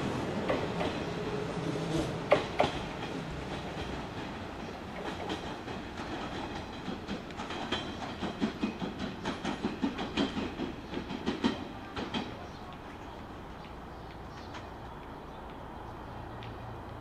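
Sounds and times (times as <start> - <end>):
train rumble: 0.0 - 17.0
train wheels clicking on rail joints: 0.4 - 1.2, 1.8 - 17.0.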